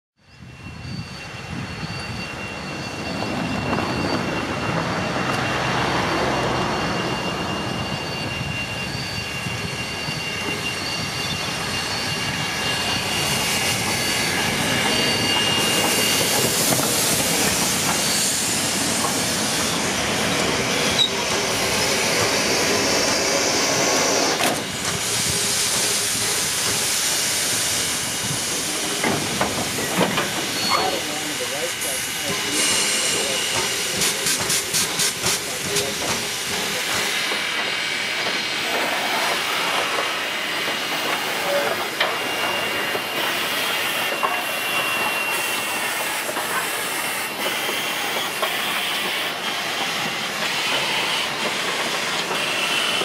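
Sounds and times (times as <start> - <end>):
train wheels rumbling on rails: 0.4 - 53.0
steam hissing: 1.0 - 53.0.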